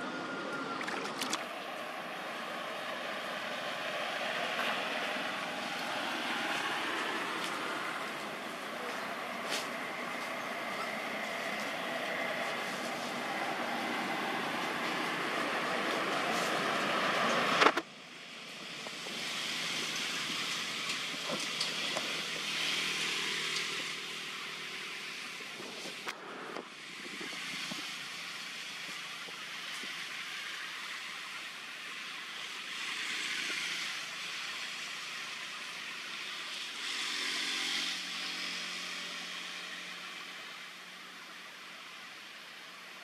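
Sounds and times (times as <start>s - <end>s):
outdoor background hiss: 1.4s - 43.0s.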